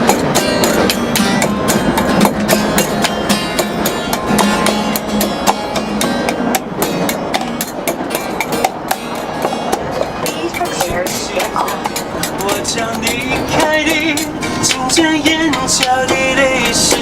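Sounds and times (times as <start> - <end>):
percussive beat: 0.0 - 17.0
plucked acoustic guitar: 0.0 - 17.0.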